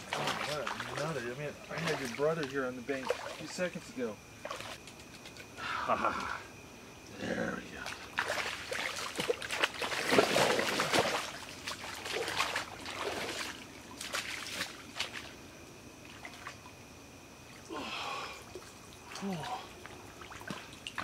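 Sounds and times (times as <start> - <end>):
water splashing and sloshing: 0.0 - 5.6, 7.7 - 21.0.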